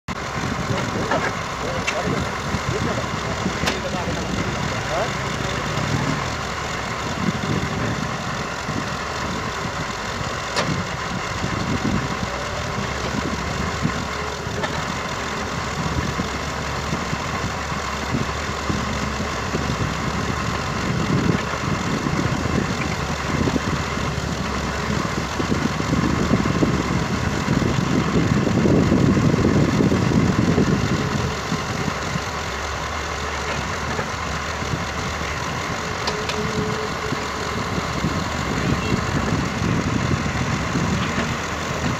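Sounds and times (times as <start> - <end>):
excavator working: 0.1 - 41.9
tractor diesel engine idling: 0.1 - 41.9.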